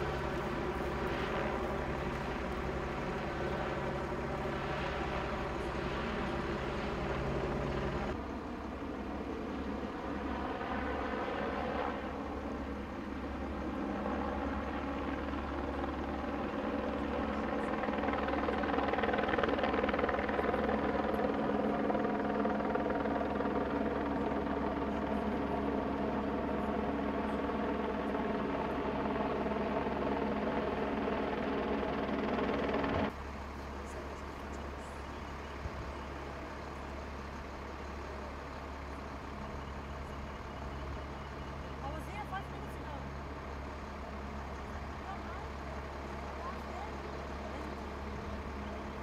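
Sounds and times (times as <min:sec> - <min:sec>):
helicopter rotor and turbine drone: 0:00.0 - 0:49.0.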